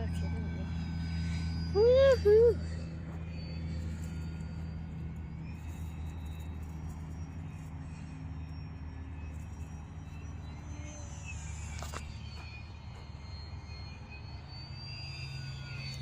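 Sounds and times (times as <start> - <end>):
high whine: 0.0 - 16.0
model airplane motor and propeller hum: 0.0 - 16.0.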